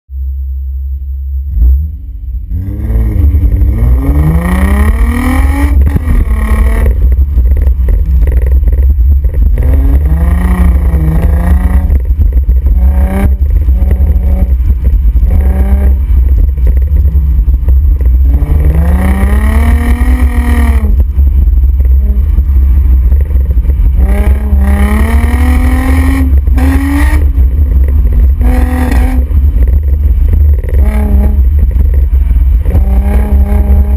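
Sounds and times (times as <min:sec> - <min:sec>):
car exhaust revving: 0:00.1 - 0:33.9.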